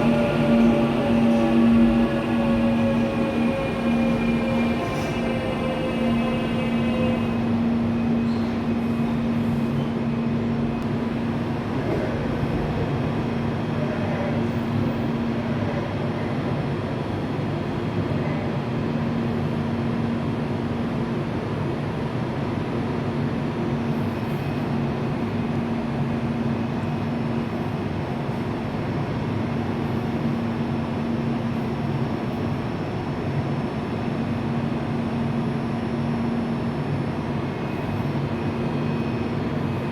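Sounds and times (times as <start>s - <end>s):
electric train rumble: 0.0s - 39.9s.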